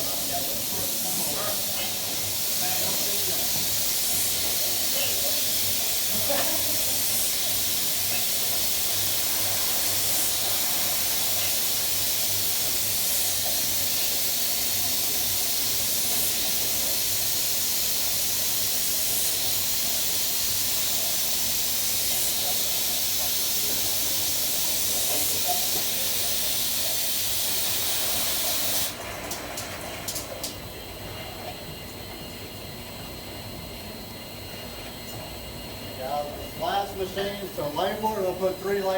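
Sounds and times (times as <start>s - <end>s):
machinery hissing: 0.0s - 38.9s.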